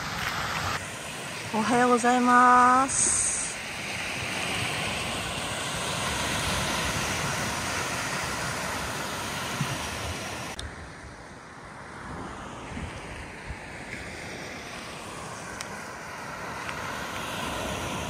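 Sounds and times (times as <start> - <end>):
waves washing onto shore: 0.0 - 18.0.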